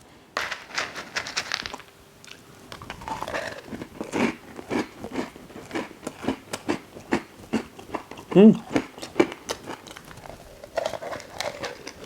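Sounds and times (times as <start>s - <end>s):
chewing crunchy cereal: 0.4s - 12.0s.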